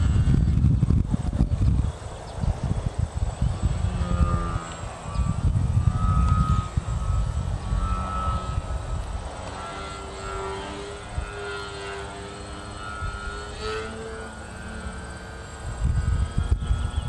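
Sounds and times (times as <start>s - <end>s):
small aircraft engine droning: 0.0s - 17.0s.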